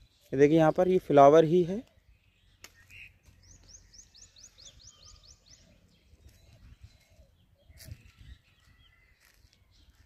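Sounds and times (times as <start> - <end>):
small bird singing: 0.0 - 10.0.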